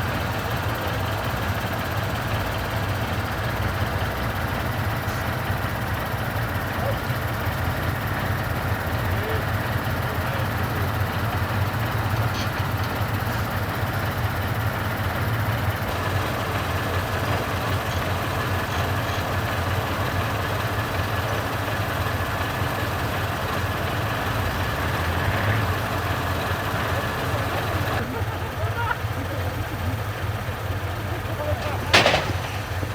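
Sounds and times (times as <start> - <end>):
diesel truck engine running: 0.0 - 32.9.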